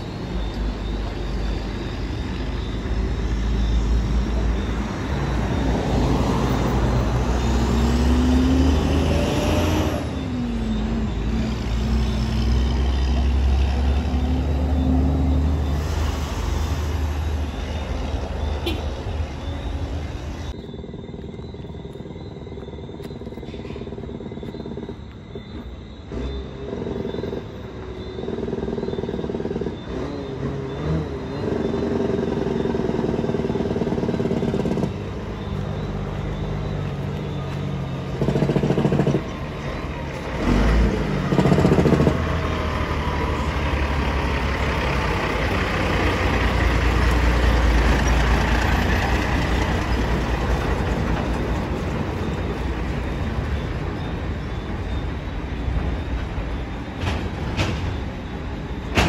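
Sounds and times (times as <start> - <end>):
truck diesel engine revving: 0.0 - 20.5, 26.0 - 59.0.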